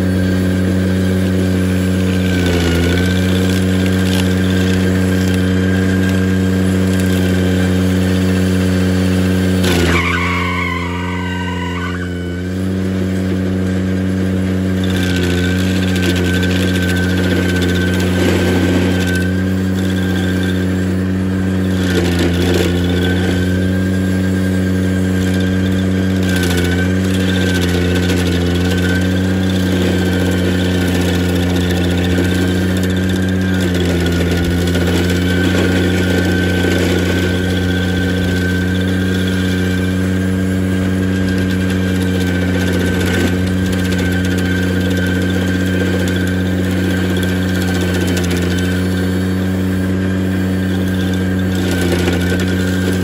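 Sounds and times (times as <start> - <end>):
stump grinder grinding: 0.0 - 53.0
tractor engine running: 0.0 - 53.0.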